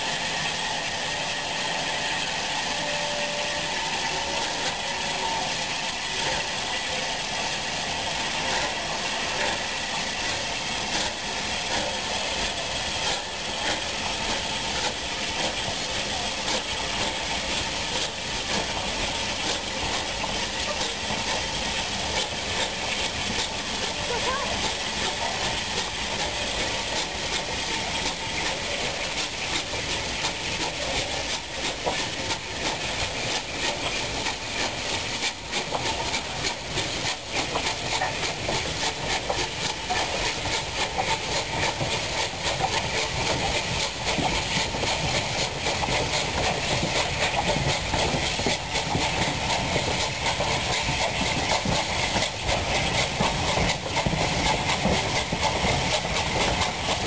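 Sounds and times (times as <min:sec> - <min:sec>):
steam locomotive chuffing: 0:00.0 - 0:57.0
train wheels clicking on rail joints: 0:00.0 - 0:57.0.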